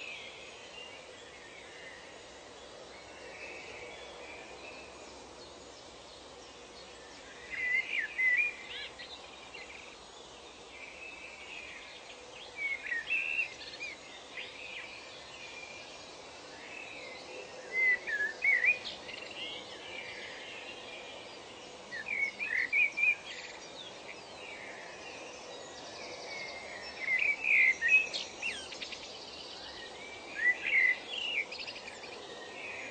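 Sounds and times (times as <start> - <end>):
outdoor ambience hiss: 0.0 - 32.9
songbird warbling chirps: 3.0 - 15.9, 16.6 - 32.9.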